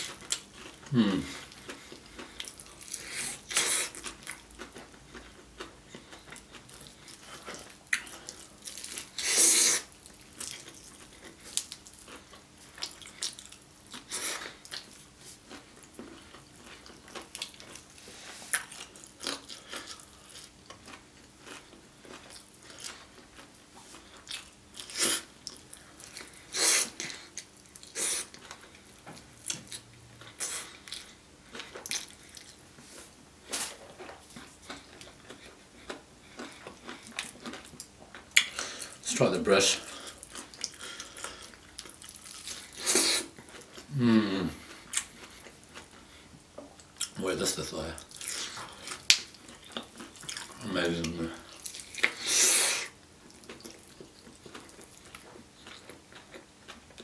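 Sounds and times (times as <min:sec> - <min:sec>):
chewing fried chicken: 0:00.0 - 0:57.0.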